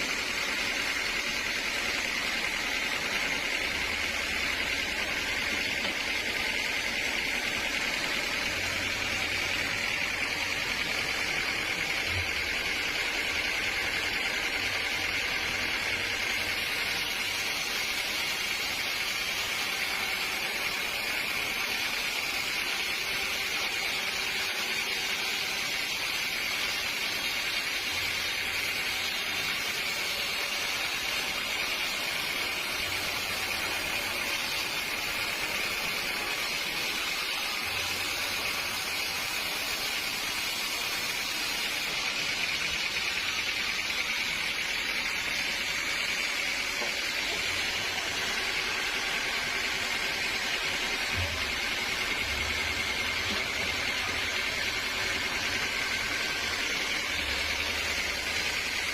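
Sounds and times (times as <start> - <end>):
sawmill saw whining: 0.0 - 58.9.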